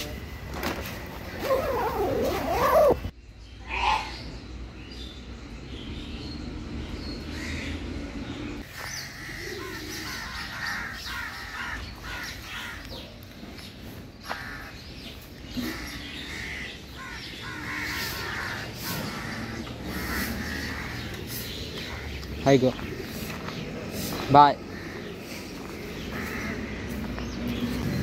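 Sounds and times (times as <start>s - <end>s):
birds calling and chirping: 0.2s - 28.0s.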